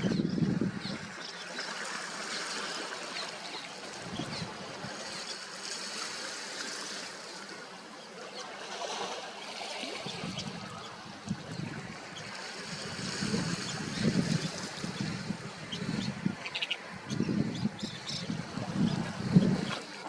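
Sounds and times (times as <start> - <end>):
sea surf washing: 0.0 - 20.0.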